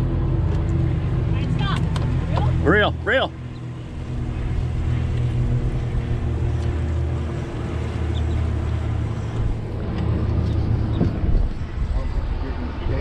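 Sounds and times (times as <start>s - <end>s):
outboard engine running: 0.0s - 13.0s.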